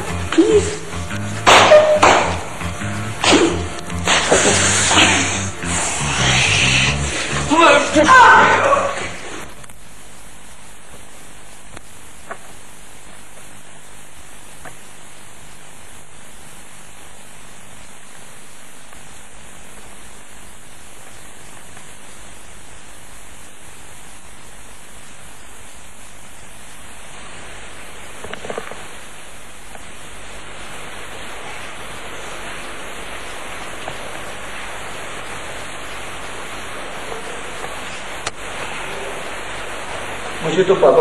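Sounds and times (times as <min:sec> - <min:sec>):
steady rain: 0:00.0 - 0:15.9, 0:16.5 - 0:41.0.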